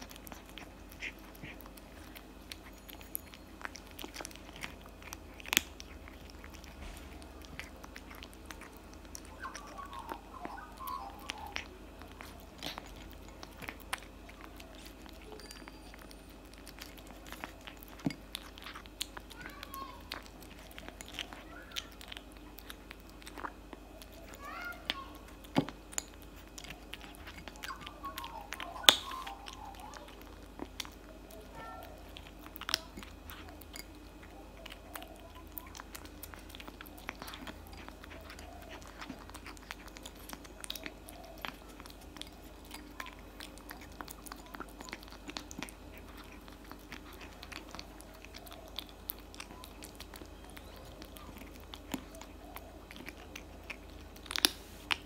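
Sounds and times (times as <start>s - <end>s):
kitten crunching dry food: 0.0s - 55.0s.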